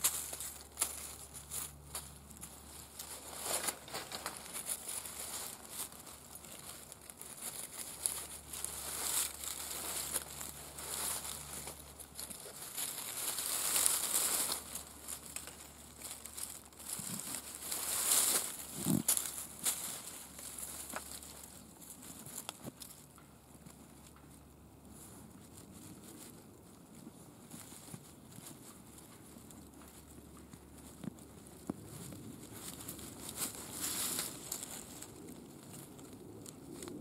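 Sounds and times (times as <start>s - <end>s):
dry leaves rustling and crackling: 0.0s - 37.0s.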